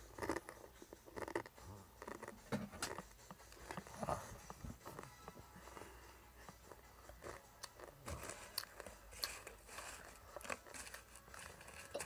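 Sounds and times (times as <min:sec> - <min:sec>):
chewing crunchy snack: 0:00.0 - 0:05.2, 0:06.5 - 0:12.0.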